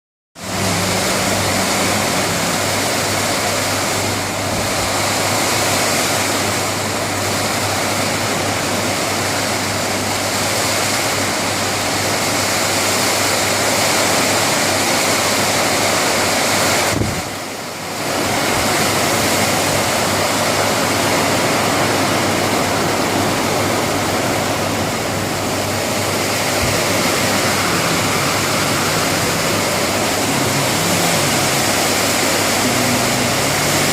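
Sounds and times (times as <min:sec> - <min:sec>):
low hum: 0:00.4 - 0:13.0, 0:18.4 - 0:33.9
heavy rain hissing: 0:00.4 - 0:33.9.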